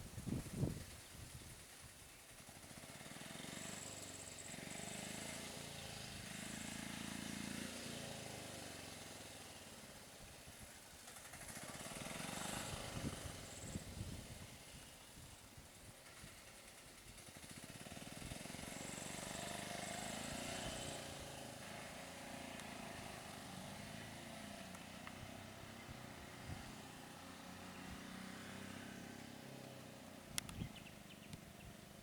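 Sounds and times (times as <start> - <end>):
small vehicle engine passing: 0.0 - 32.0.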